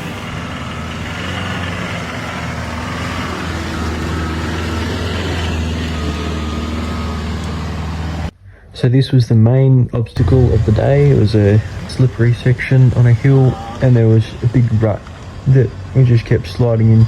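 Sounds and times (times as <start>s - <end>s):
engine running at low revs: 0.0s - 8.4s, 10.2s - 17.0s.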